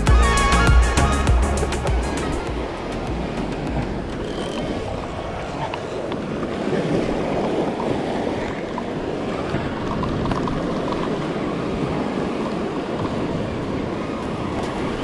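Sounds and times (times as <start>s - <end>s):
ocean surf washing onto beach: 0.0s - 15.0s
wind: 0.0s - 15.0s.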